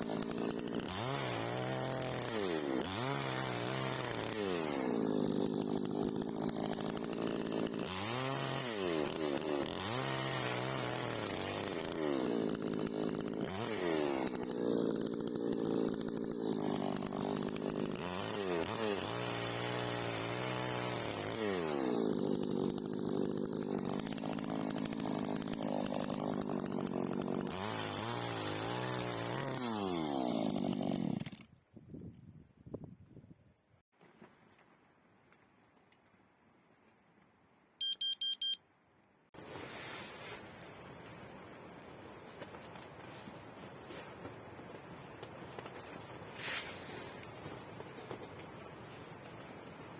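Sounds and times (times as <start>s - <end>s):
chainsaw cutting and revving: 0.0s - 31.5s, 39.4s - 49.9s.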